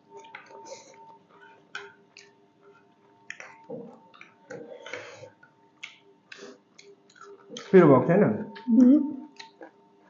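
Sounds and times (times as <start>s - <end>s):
chewing and smacking: 0.1s - 7.8s, 8.5s - 9.9s.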